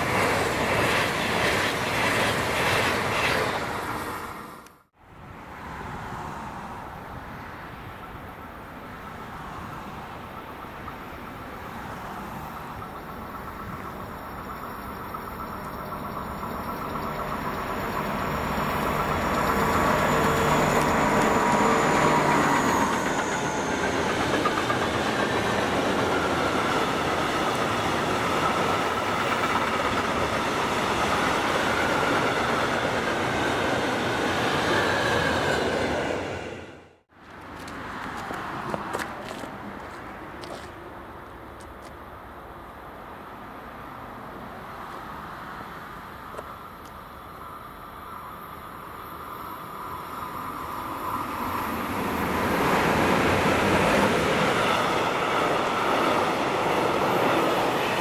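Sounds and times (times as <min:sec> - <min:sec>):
train passing on rails: 0:00.0 - 0:58.0.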